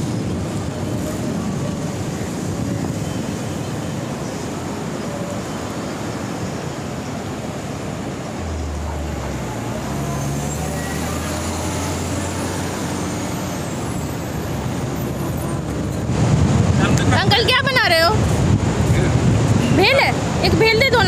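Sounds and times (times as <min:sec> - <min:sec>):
sea surf: 0:00.0 - 0:21.0
wind blowing on microphone: 0:00.0 - 0:21.0.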